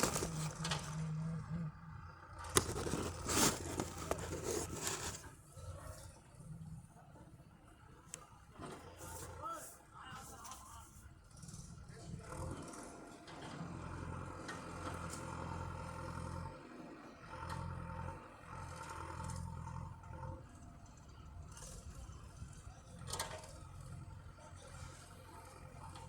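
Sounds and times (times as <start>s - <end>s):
tractor engine labouring: 0.0s - 9.8s, 11.2s - 26.0s.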